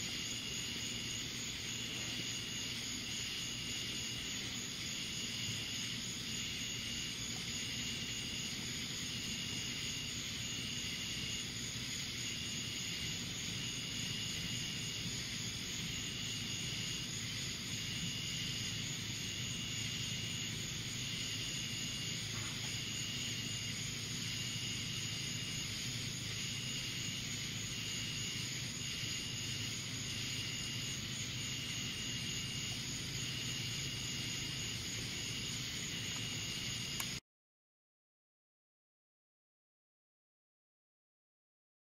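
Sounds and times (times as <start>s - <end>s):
hiss and low hum: 0.0s - 37.2s.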